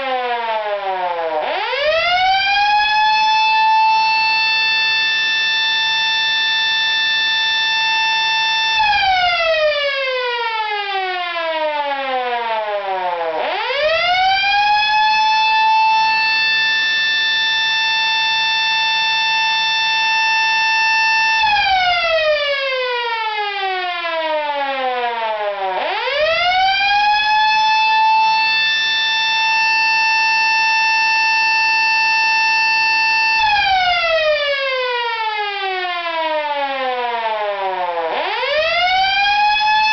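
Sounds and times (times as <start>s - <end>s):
electric siren wailing and winding down: 0.0s - 39.9s.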